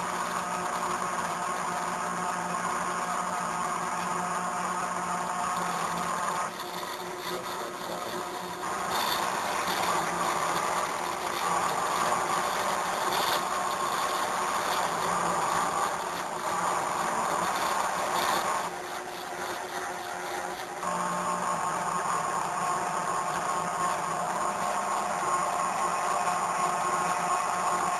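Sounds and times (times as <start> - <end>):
stepper motors whirring: 0.0 - 27.9.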